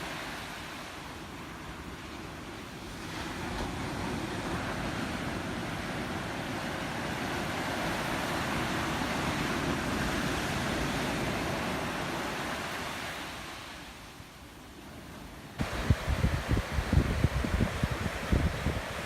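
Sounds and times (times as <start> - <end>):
ocean surf washing onto beach: 0.0 - 19.0.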